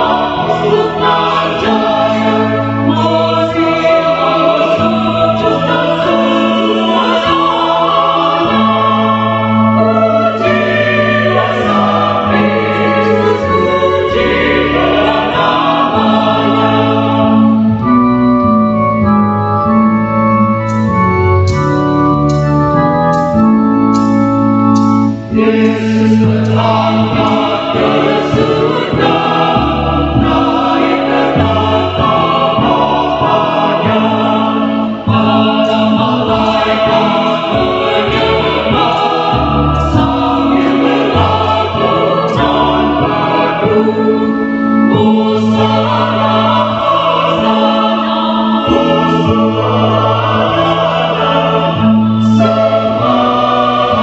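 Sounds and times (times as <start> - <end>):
choir singing a hymn: 0.0 - 54.0
organ: 0.0 - 54.0.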